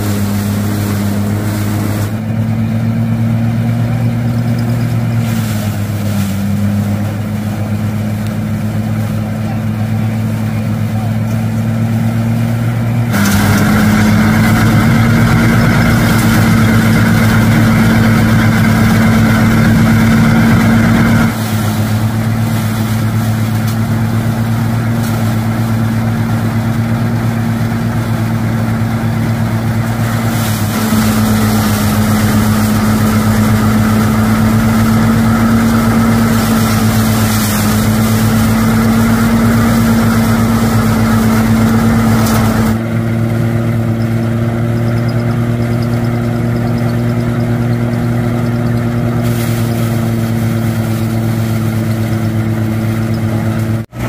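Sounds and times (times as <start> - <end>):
rice thresher engine droning: 0.0 - 54.0.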